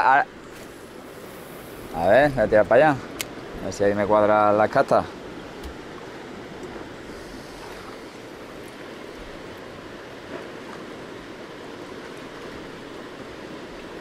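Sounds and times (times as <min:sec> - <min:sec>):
sea and wind wash: 0:00.0 - 0:14.0.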